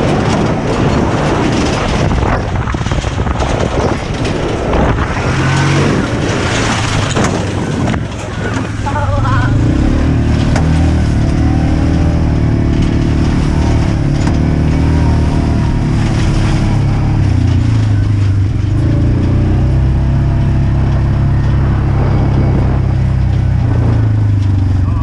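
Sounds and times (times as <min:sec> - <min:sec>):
farm vehicle engine running: 0:00.0 - 0:25.0.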